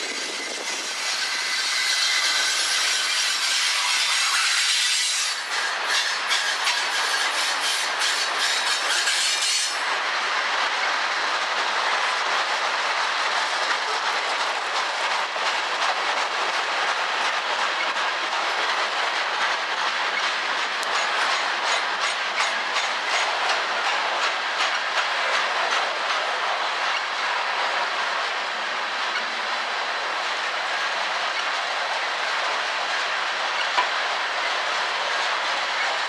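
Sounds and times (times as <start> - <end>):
clickety-clack of train wheels: 0.0 - 36.0
freight train wheels on rails: 0.0 - 36.0.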